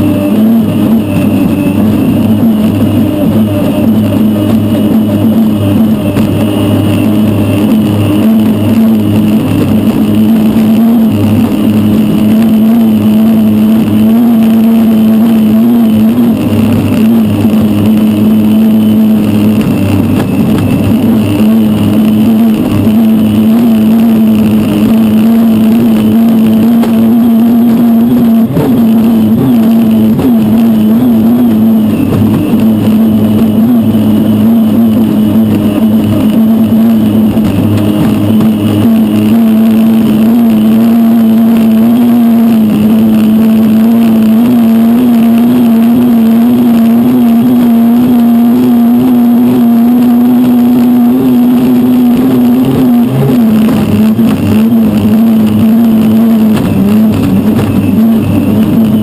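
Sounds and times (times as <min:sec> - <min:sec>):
turbine engine drone: 0:00.0 - 0:59.0.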